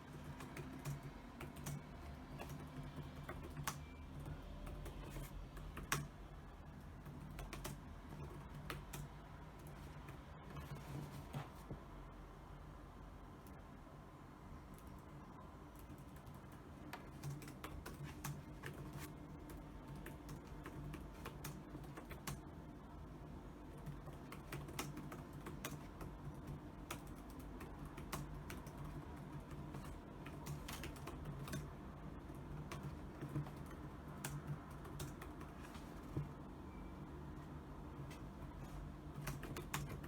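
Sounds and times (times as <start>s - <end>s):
computer keyboard typing: 0.0s - 11.3s, 14.6s - 40.0s
faint steady hum: 0.0s - 40.0s.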